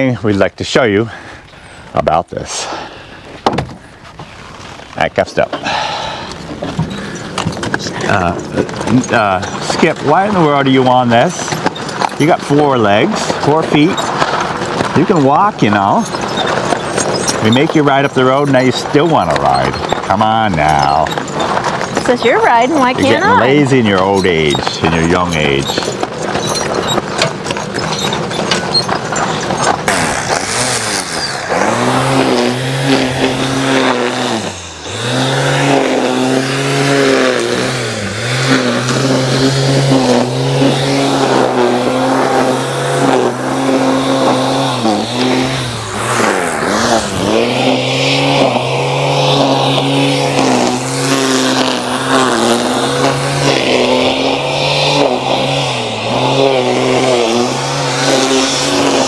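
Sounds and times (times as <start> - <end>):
string trimmer motor running: 5.7 - 59.0
clicking clatter: 6.3 - 23.3, 23.9 - 59.0.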